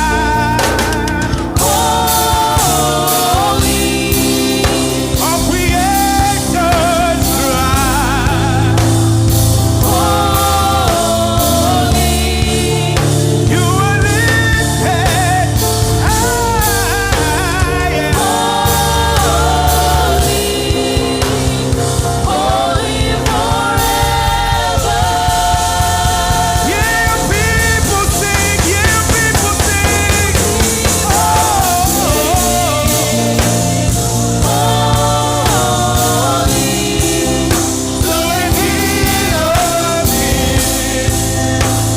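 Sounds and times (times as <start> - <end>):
backing choir singing: 0.0 - 41.9
band with bass and drums: 0.0 - 41.9
lead singer: 0.0 - 41.9.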